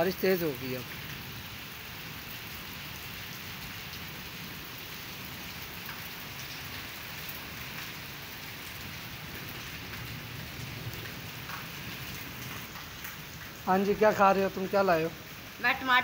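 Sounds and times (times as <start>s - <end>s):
heavy rain on concrete: 0.0s - 16.0s.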